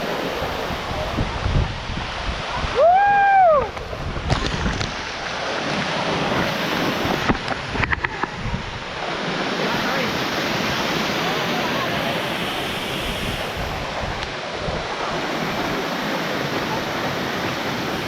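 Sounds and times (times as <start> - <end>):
wind buffeting microphone: 0.0 - 9.2, 11.9 - 18.0
waterfall roaring: 0.0 - 18.0.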